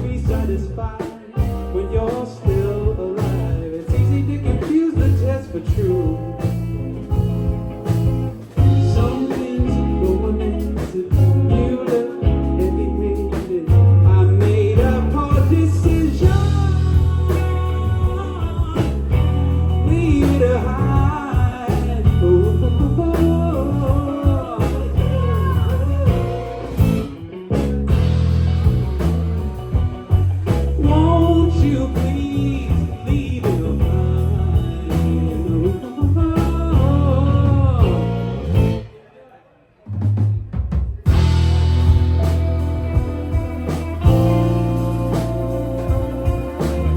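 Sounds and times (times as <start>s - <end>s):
person singing: 0.0s - 7.0s, 8.6s - 27.2s, 30.7s - 39.4s, 42.0s - 46.9s
live rock band playing: 0.0s - 39.0s, 40.0s - 46.9s.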